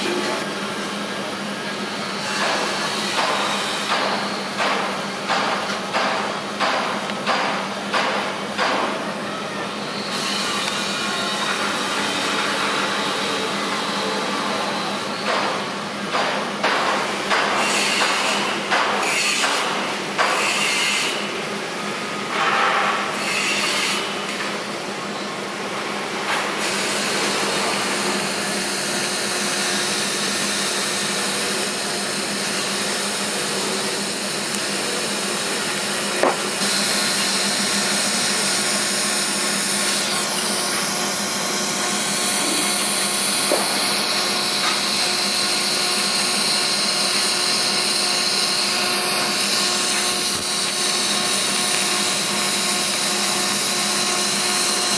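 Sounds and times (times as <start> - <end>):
welding arc hissing and humming: 0.0 - 9.0, 9.6 - 54.9.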